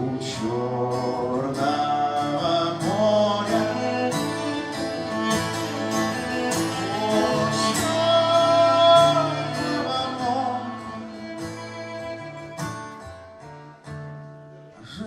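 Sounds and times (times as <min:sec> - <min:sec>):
cello: 0:00.0 - 0:13.6
acoustic guitar: 0:00.0 - 0:15.0.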